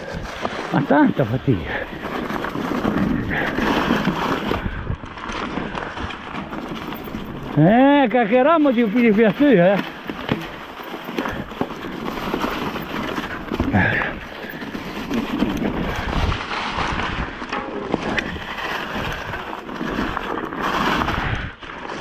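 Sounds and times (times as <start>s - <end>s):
bike rattling: 0.0s - 22.0s
tyres crunching over dry leaves: 0.0s - 22.0s.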